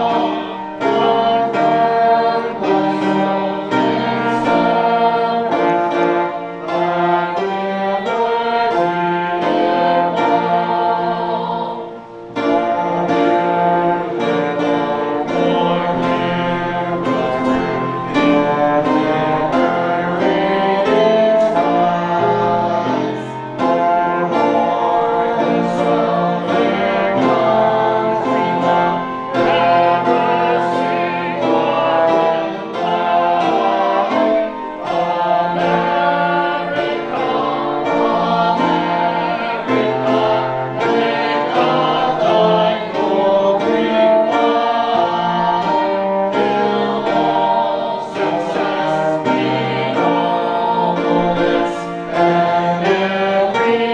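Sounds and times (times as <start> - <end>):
group singing a hymn: 0.0 - 53.9
instrumental accompaniment: 0.0 - 53.9.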